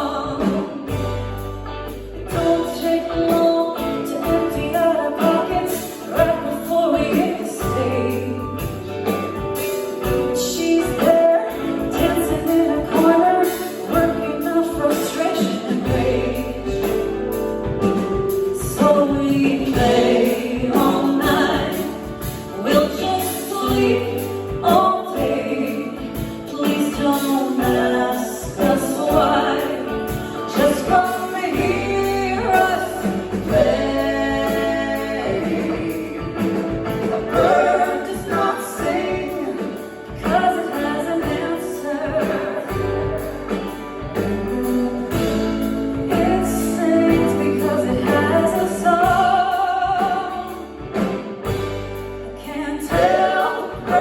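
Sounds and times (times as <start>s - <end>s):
person singing: 0.0s - 51.6s, 52.2s - 54.0s
band playing a song: 0.0s - 54.0s.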